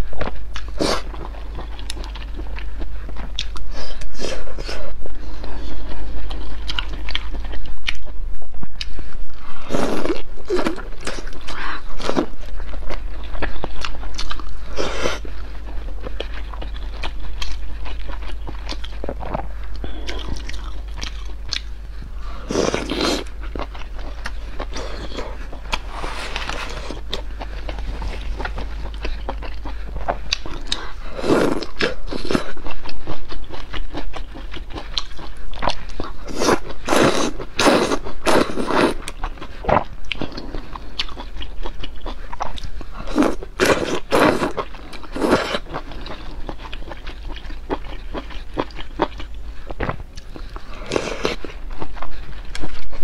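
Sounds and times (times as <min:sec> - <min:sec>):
wet chewing of food: 0:00.2 - 0:08.2, 0:08.8 - 0:53.0.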